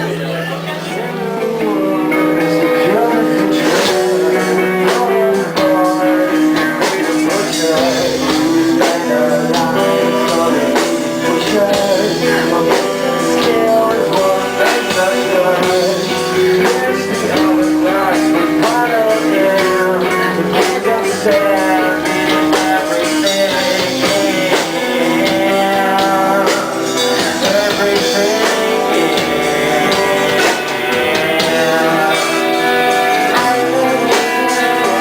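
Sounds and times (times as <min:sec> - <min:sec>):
rock guitar: 0:00.0 - 0:35.0
steady drum beat: 0:01.6 - 0:35.0.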